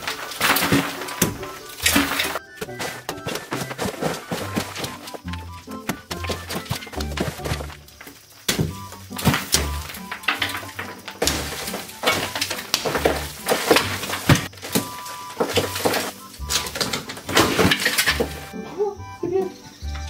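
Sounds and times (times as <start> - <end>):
clay crumbling: 0.0 - 18.5.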